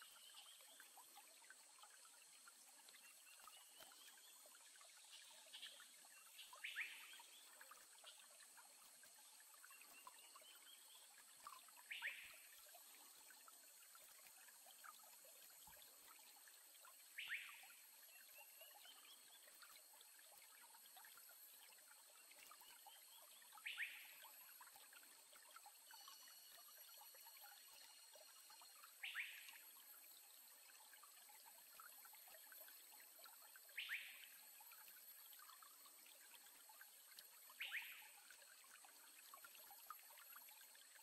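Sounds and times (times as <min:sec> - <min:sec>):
water trickling: 0:00.0 - 0:41.0.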